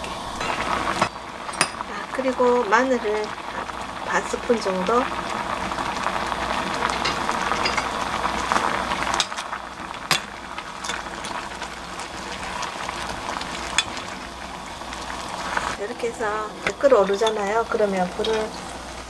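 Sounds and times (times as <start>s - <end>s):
liquid bubbling in a pot: 0.0s - 19.0s.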